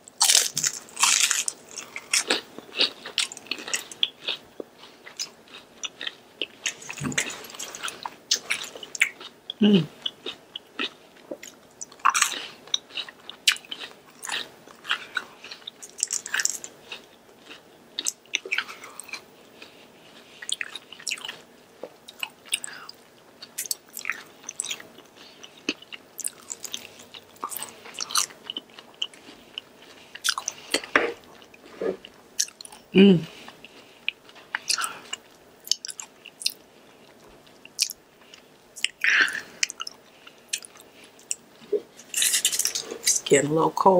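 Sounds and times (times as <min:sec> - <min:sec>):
person chewing crunchy food: 0:00.0 - 0:43.2.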